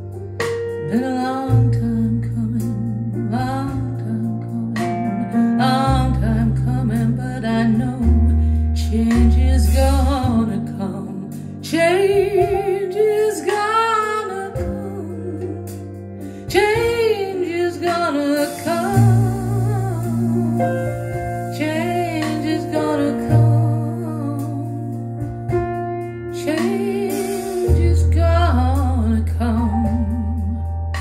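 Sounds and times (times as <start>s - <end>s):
soul ballad over loudspeakers: 0.0s - 31.0s
woman singing: 0.8s - 25.2s, 26.3s - 31.0s.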